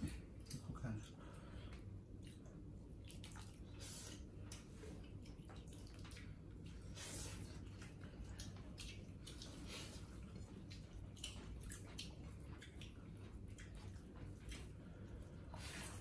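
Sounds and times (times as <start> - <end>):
faint low hum: 0.0 - 16.0
wet eating sounds: 0.0 - 16.0.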